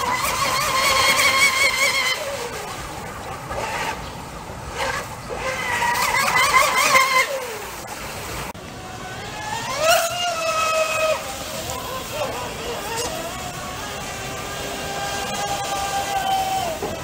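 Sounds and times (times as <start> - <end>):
electric boat motor whining: 0.0 - 17.0.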